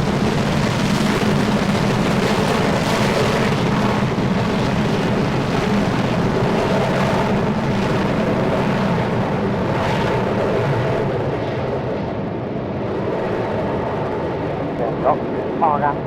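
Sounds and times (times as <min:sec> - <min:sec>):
jet engines at high power: 0:00.0 - 0:16.0.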